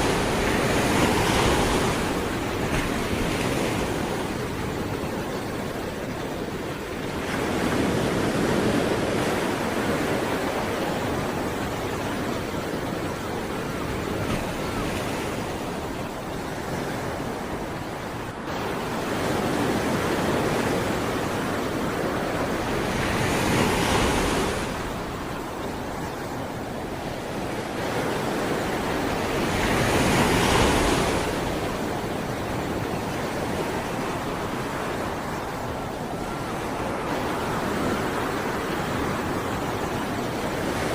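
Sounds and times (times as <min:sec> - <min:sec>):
waves washing onto shore: 0:00.0 - 0:40.9.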